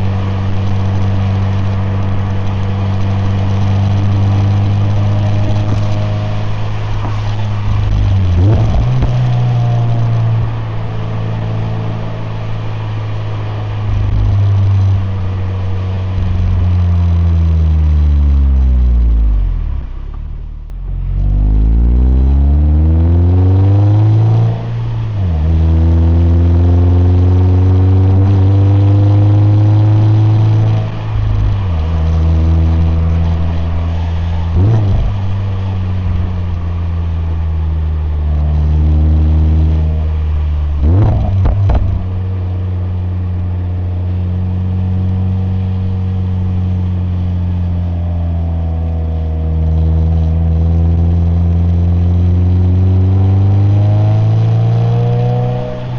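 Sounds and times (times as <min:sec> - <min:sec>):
car engine revving through gears: 0:00.0 - 0:19.6, 0:20.7 - 0:55.9.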